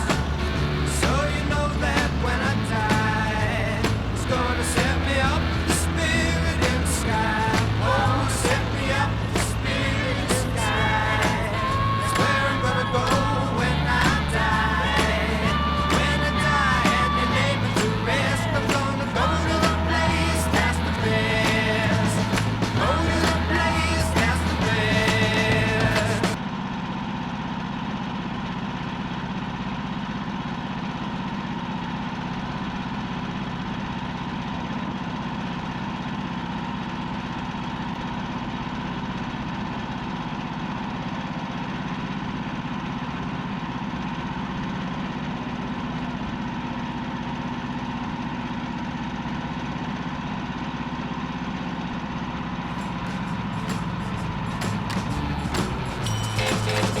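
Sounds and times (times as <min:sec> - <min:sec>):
gasoline engine running steadily: 0:00.0 - 0:57.0.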